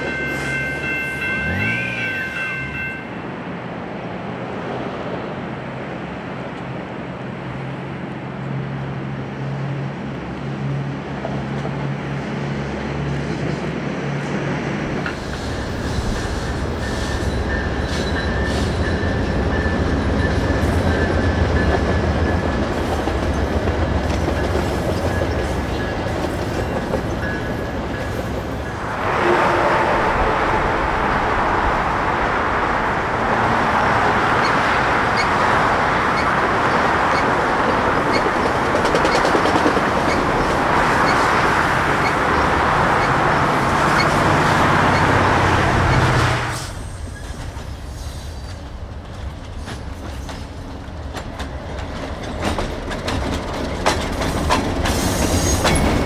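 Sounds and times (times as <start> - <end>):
passing train rushing hiss: 0.0 - 6.8, 11.8 - 51.8, 52.4 - 56.0
deep rumble of train: 0.0 - 56.0
diesel train engine drone: 0.0 - 56.0.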